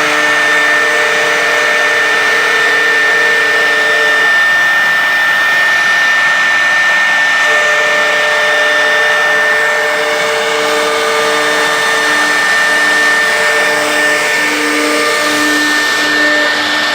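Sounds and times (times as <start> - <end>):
cnc router high whine: 0.0 - 16.9.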